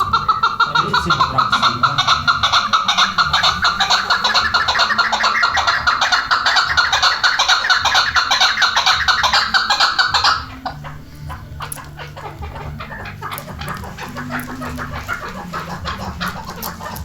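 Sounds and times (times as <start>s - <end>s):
partridge calling: 0.0s - 17.0s.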